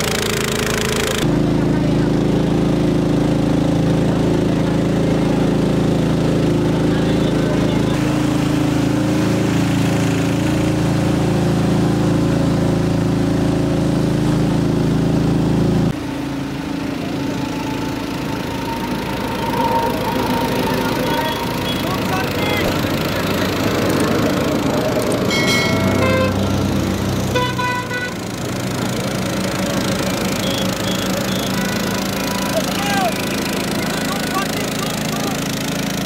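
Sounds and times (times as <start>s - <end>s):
outboard engine running: 0.0s - 36.0s.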